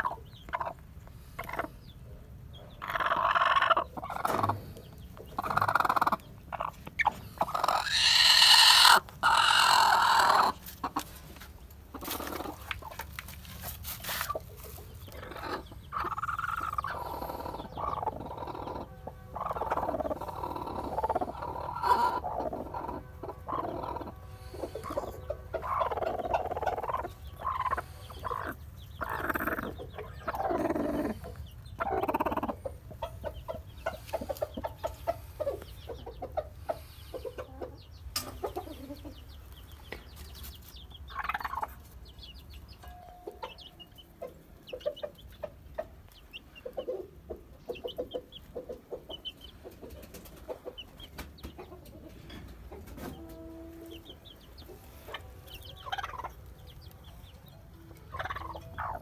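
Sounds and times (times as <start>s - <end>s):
hen clucking: 0.0s - 59.0s.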